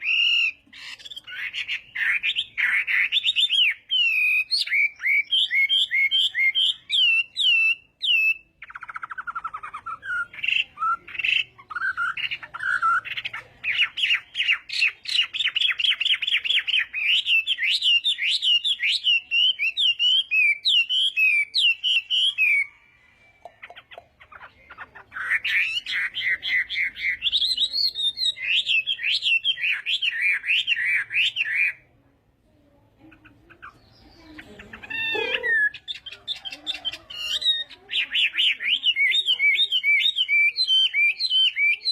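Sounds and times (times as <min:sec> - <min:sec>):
bird singing whistled trills: 0:00.0 - 0:22.9, 0:25.2 - 0:31.8, 0:35.1 - 0:41.9.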